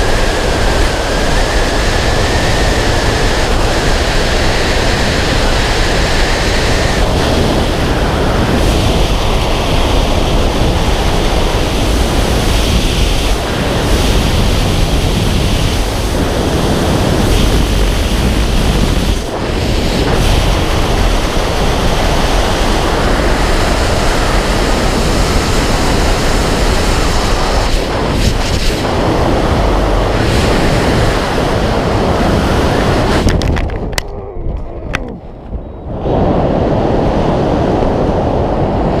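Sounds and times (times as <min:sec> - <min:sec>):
freefall wind roar: 0:00.0 - 0:39.0.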